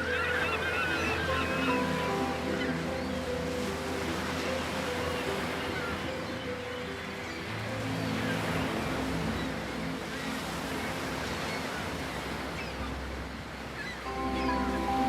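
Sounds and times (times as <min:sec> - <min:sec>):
ocean water noise: 0:00.0 - 0:15.0
soft ambient music: 0:00.0 - 0:15.0.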